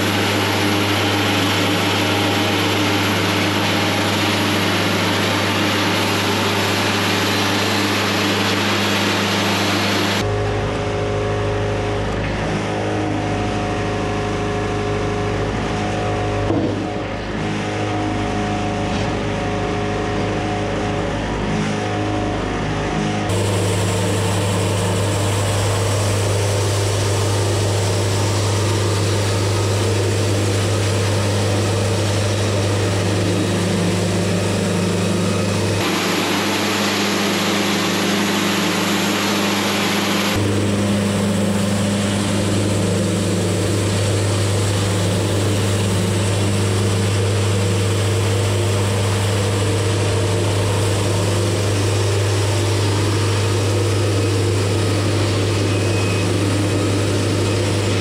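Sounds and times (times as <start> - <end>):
band sawmill cutting timber: 0.0 - 58.0.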